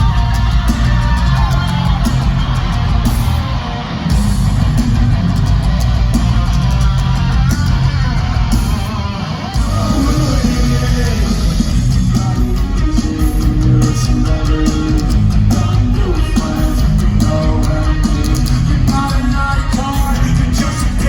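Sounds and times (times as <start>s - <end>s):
live rock music: 0.0s - 21.0s.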